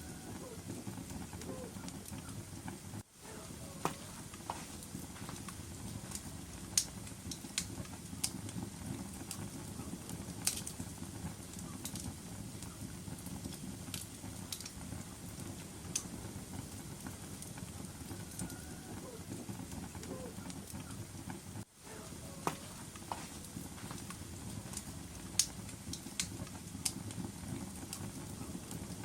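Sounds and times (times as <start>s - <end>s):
fire crackling and popping: 0.0s - 29.0s
fire flames rumbling: 0.0s - 29.0s.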